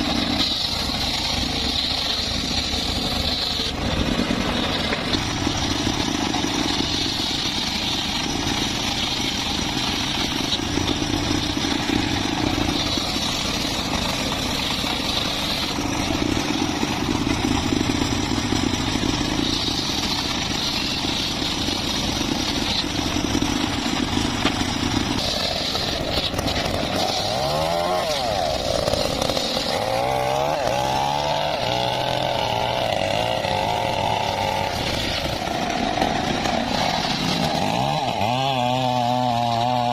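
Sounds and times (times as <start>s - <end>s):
small petrol saw engine running: 0.0s - 39.9s.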